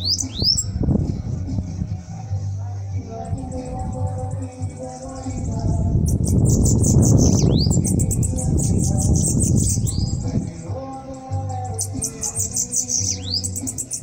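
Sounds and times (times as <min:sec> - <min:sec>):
bird singing high twittering song: 0:00.0 - 0:01.5, 0:03.0 - 0:14.0.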